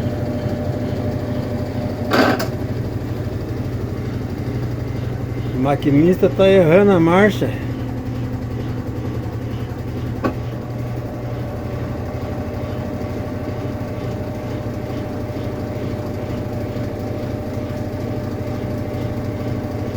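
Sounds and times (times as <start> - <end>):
washing machine spin drone and grinding: 0.0 - 19.9.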